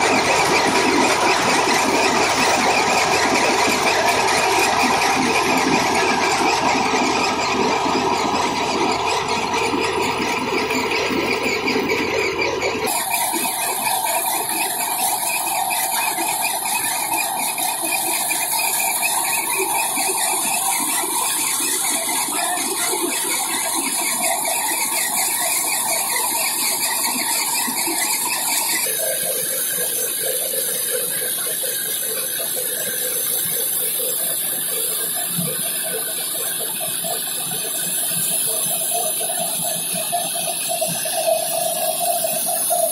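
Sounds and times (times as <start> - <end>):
thresher clattering and squealing: 0.0 - 42.9.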